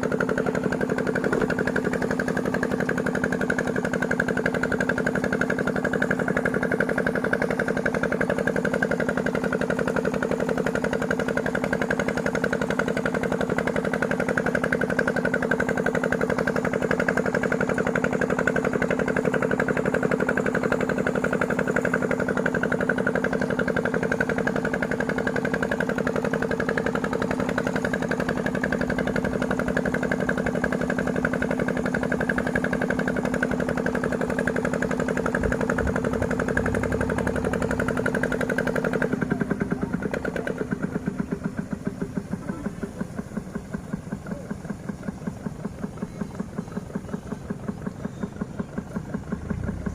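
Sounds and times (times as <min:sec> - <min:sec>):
motor running with rattling pulse: 0:00.0 - 0:49.9.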